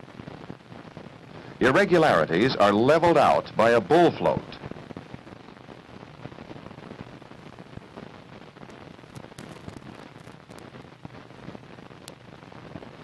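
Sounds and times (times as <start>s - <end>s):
film soundtrack hiss and crackle: 0.0s - 13.0s.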